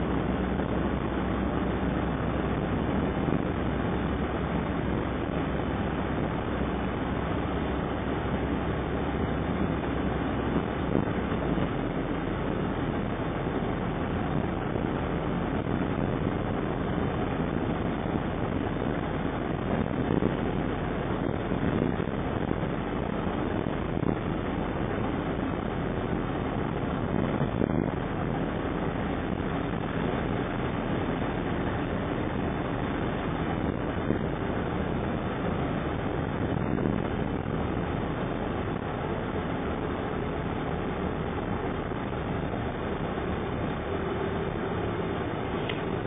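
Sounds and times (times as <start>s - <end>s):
vehicle engine and tyre rumble: 0.0s - 46.0s.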